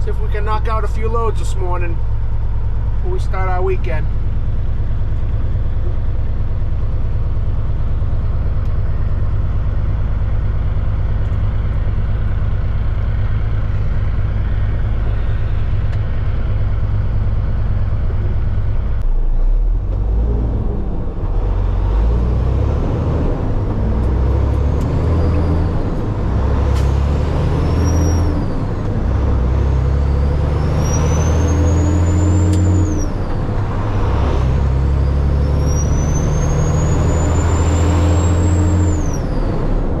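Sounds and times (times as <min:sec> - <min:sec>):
diesel truck engine revving: 0:00.0 - 0:40.0.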